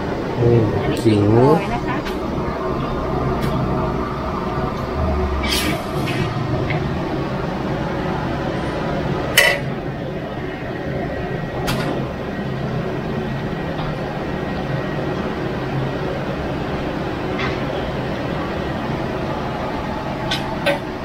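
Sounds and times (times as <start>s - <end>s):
gas flame roaring under wok: 0.0s - 21.0s.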